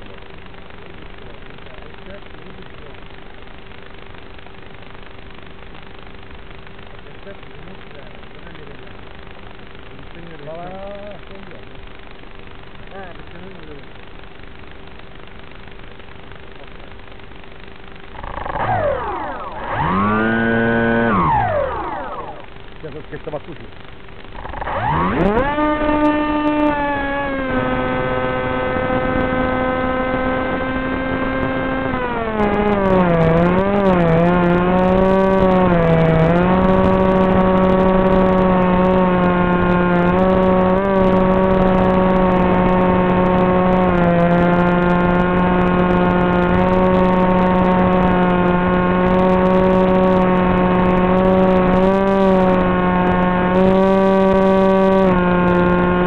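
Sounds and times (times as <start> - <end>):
drone motor and propeller droning: 0.0 - 56.0.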